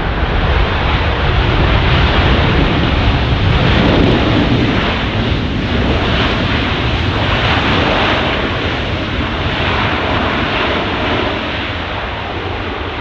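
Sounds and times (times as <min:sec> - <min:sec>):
jet engines: 0:00.0 - 0:13.0.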